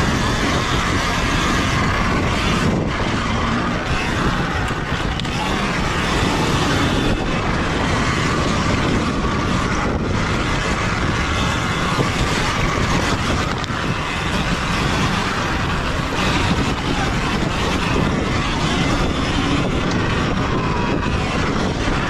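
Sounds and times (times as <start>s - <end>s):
wind on camera microphone: 0.0s - 22.0s.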